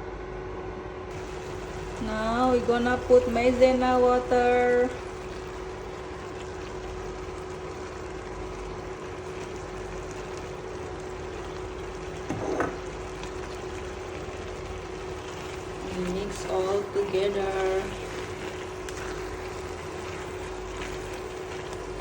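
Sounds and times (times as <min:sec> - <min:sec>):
faint steady hum: 0:00.0 - 0:22.0
stock bubbling in a pan: 0:01.1 - 0:22.0.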